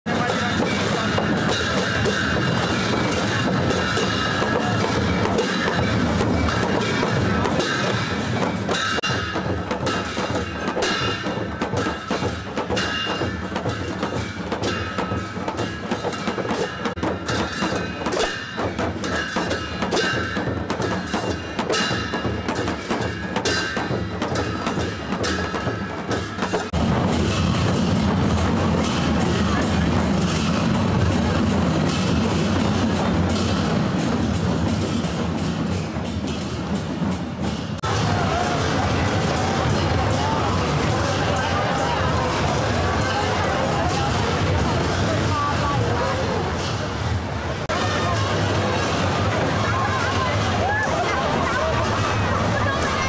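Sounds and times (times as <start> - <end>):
drum-led percussion music: 0.0 - 53.0.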